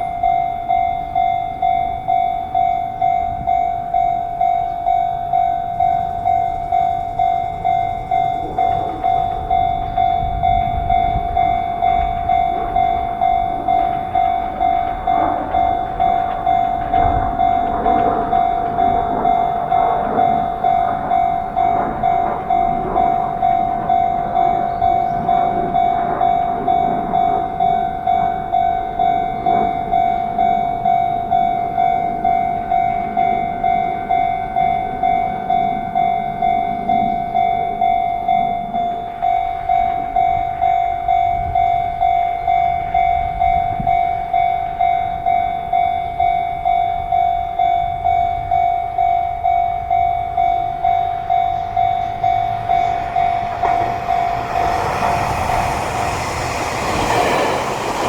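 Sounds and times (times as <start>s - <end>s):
approaching train: 0.0s - 58.0s
level-crossing warning bell: 0.0s - 58.0s.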